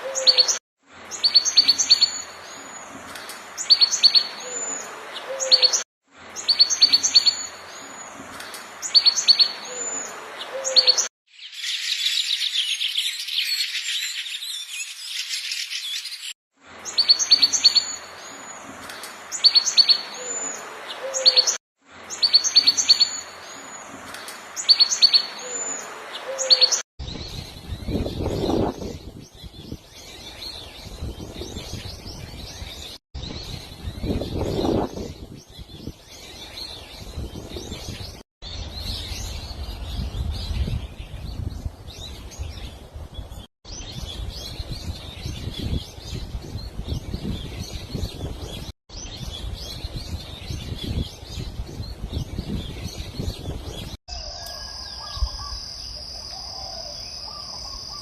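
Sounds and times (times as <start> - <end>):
small birds chirping: 6.4 - 58.0.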